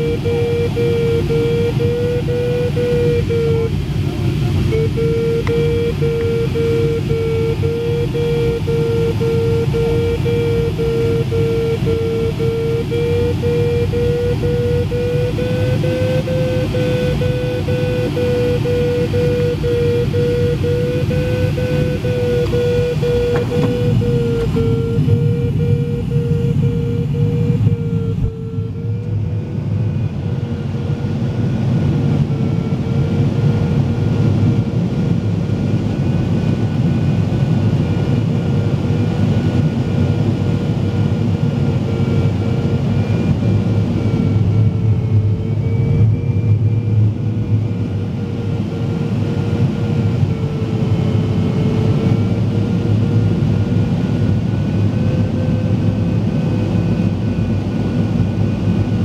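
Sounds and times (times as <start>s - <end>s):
electronic variometer tone: 0.0s - 35.2s, 39.2s - 59.0s.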